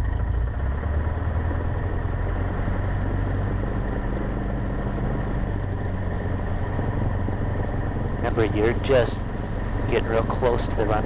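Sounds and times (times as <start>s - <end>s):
airplane engine running: 0.0s - 11.0s.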